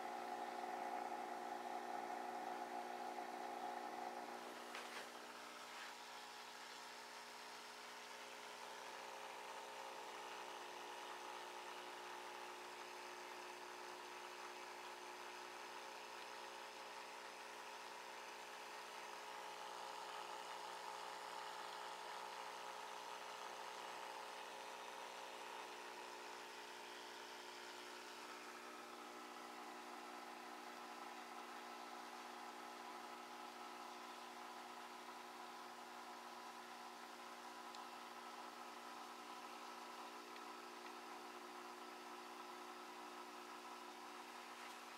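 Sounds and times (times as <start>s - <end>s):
aquarium equipment humming: 0.0s - 44.9s.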